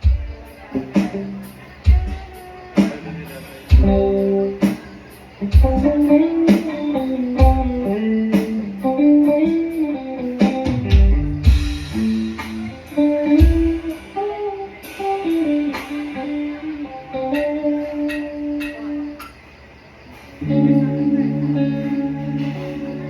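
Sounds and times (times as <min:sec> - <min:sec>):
guitar picking a melody: 0:00.0 - 0:19.5, 0:20.4 - 0:23.0
drums: 0:00.0 - 0:23.0.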